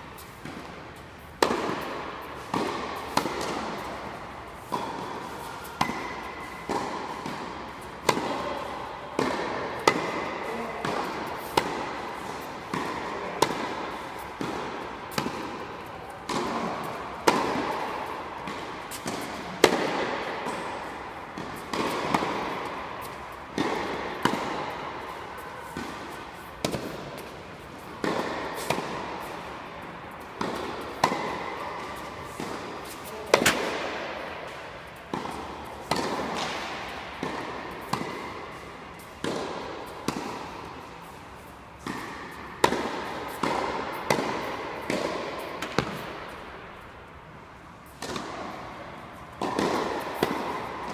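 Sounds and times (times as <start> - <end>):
tennis balls bouncing on hard court: 0.2 - 47.0, 47.8 - 50.9
tennis balls struck by rackets: 0.2 - 50.9.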